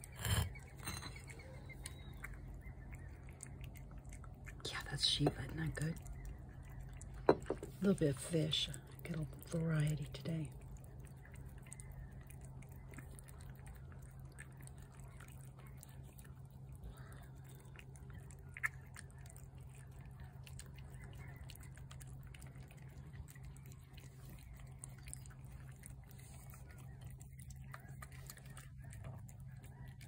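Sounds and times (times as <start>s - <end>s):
cat chewing and smacking: 0.0s - 30.0s.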